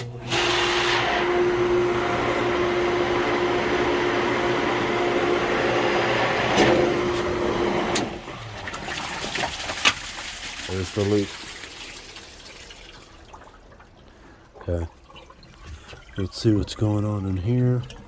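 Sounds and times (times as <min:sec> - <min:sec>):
pool pump motor humming: 0:00.0 - 0:18.0.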